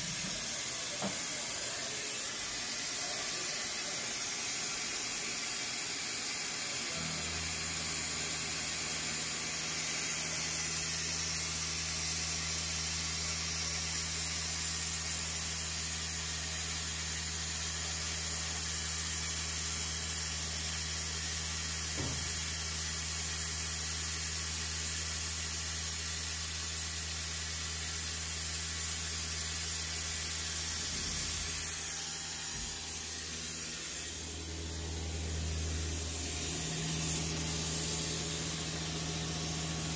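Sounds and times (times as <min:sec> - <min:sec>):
milling machine hum: 0:00.0 - 0:39.9.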